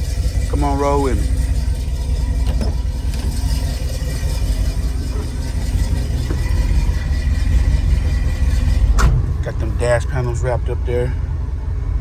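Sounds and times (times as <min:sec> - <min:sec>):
air conditioning blowing: 0:00.0 - 0:12.0
car engine rumble: 0:00.0 - 0:12.0.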